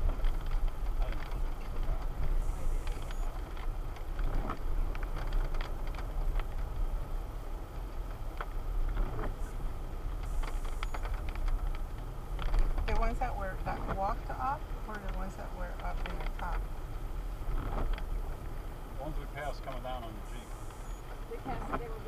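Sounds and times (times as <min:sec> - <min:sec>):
light rattles and clicks: 0:00.0 - 0:07.0, 0:10.1 - 0:16.8, 0:17.5 - 0:22.0
road and engine rumble: 0:00.0 - 0:22.0.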